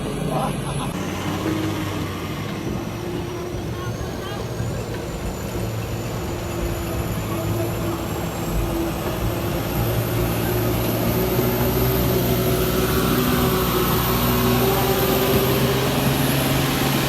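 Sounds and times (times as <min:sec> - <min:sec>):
diesel truck engine: 0:00.0 - 0:17.0.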